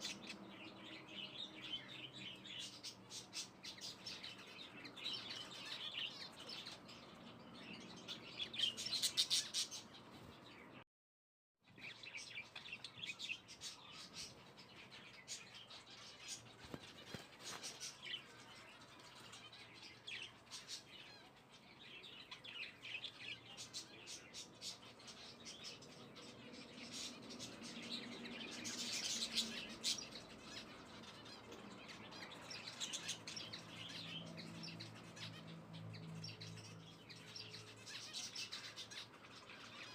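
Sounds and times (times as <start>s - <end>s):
small birds chirping: 0.0s - 10.8s, 11.6s - 39.9s.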